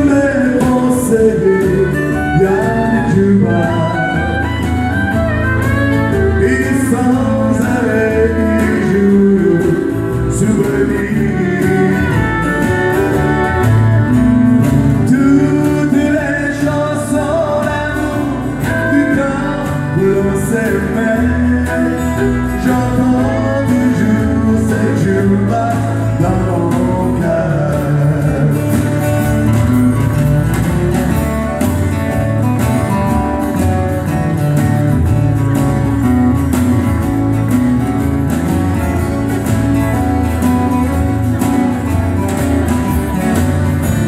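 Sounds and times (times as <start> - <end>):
live country music: 0.0 - 44.0
strummed acoustic guitar: 0.0 - 44.0.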